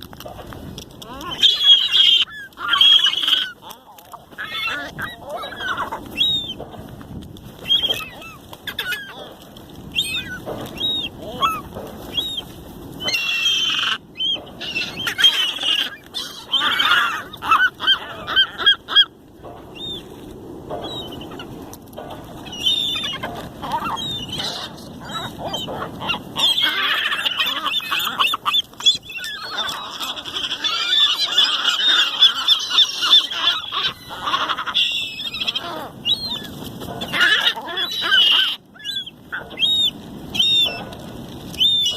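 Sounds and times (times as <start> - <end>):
seagulls squawking: 0.0 - 41.9.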